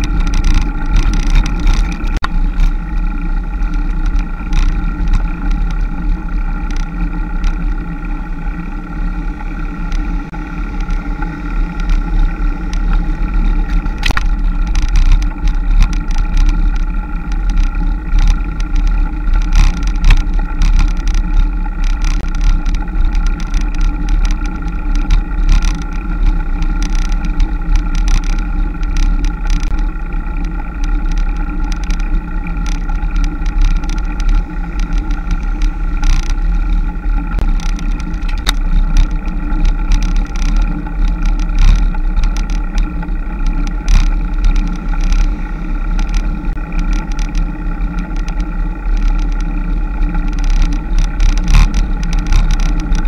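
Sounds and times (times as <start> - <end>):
steady droning tone: 0.0 - 53.0.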